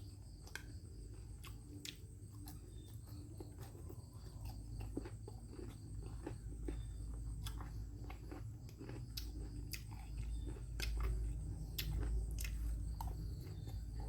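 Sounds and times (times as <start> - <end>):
person chewing food: 0.0 - 14.0
steady low hum: 0.0 - 14.0.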